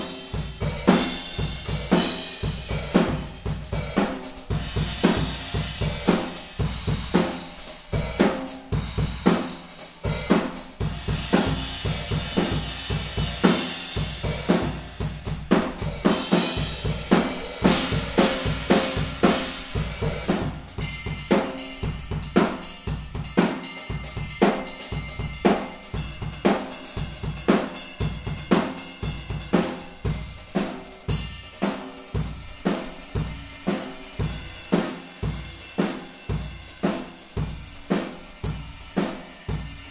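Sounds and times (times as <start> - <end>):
drum kit playing a groove: 0.0 - 39.9.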